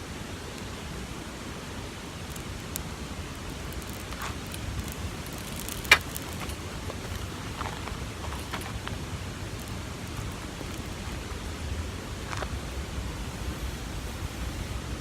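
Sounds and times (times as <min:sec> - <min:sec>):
outdoor hiss: 0:00.0 - 0:15.0
faint crackles of burning leaves: 0:00.1 - 0:15.0.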